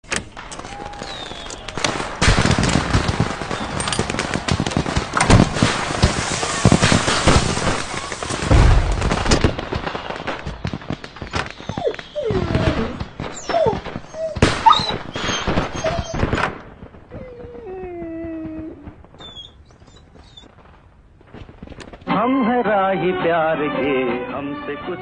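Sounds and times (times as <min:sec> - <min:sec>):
firecrackers banging and crackling: 0:00.0 - 0:22.2.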